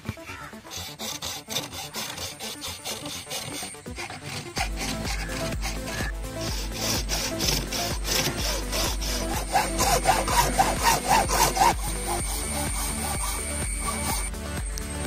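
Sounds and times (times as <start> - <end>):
hacksaw cutting coconut shell: 0.6 - 14.3.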